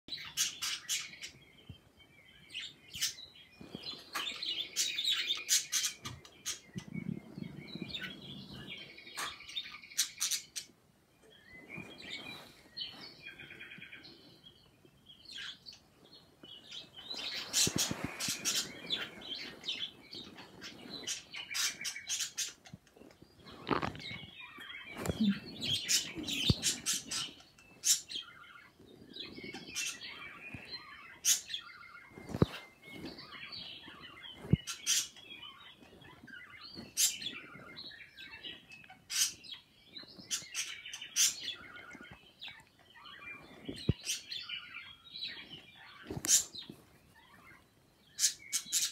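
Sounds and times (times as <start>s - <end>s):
budgerigars chirping: 0.2s - 1.4s, 2.6s - 6.9s, 7.8s - 10.7s, 16.6s - 48.9s.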